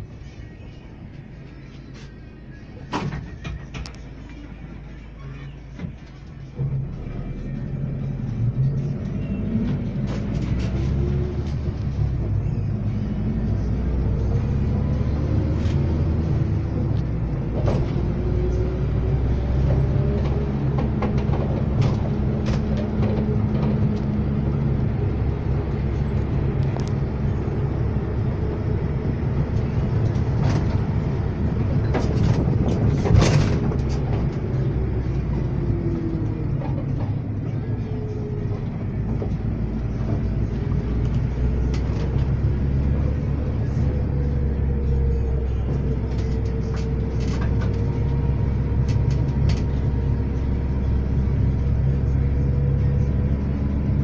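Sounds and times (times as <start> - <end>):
minibus engine and road rumble: 0.0 - 54.0.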